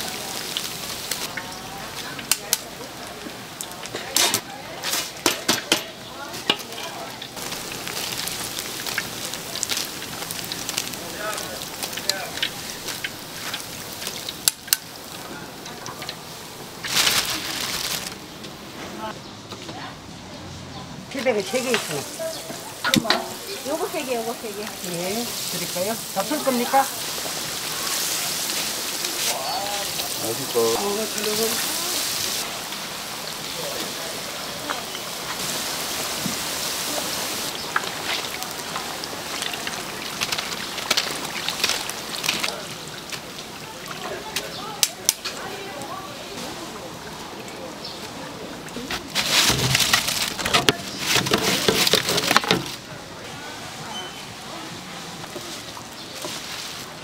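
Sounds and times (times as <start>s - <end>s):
fritters sizzling in hot oil: 0.0s - 5.2s, 6.1s - 18.6s, 21.3s - 48.0s, 53.2s - 57.0s.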